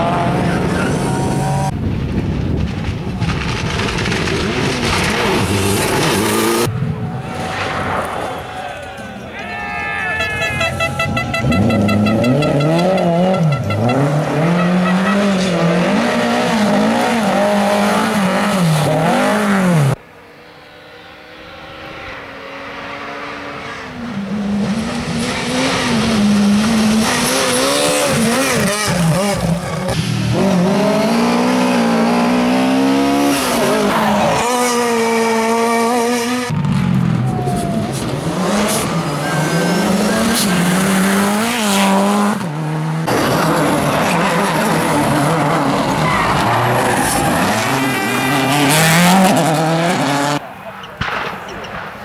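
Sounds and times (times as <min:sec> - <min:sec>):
rally car engines revving: 0:00.0 - 0:01.8, 0:02.9 - 0:09.4, 0:10.3 - 0:52.0.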